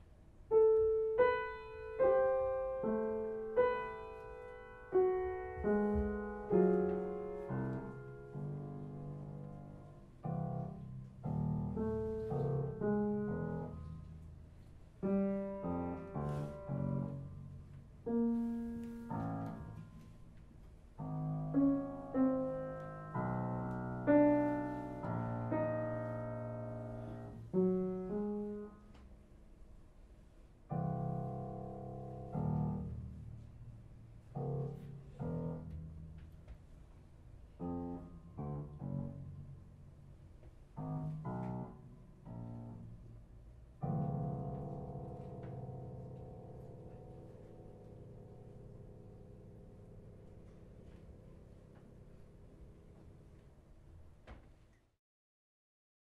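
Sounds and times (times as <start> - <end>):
slow classical piano piece: 0.0 - 55.0.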